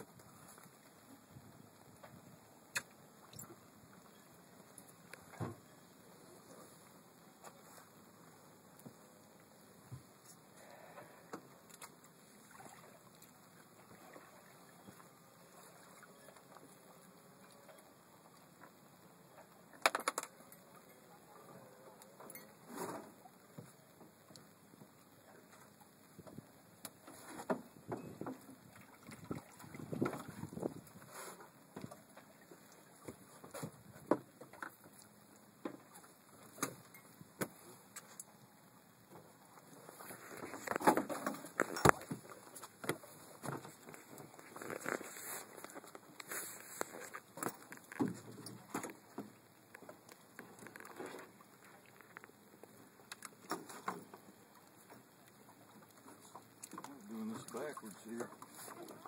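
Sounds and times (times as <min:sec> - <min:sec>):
faint water noise: 0:00.0 - 0:59.0.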